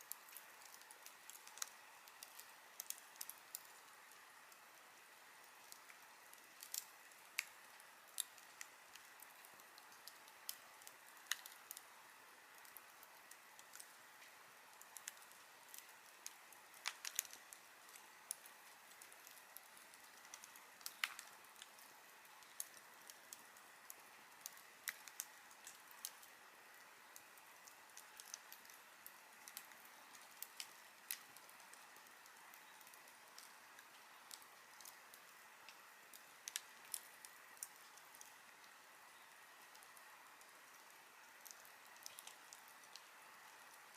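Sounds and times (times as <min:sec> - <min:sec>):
campfire crackling and popping: 0:00.0 - 0:43.9
soft steady hiss: 0:00.0 - 0:43.9.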